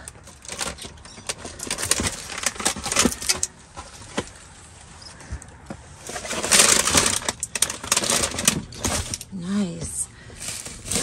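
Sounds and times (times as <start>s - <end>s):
trash rustling and crinkling: 0.0s - 11.0s.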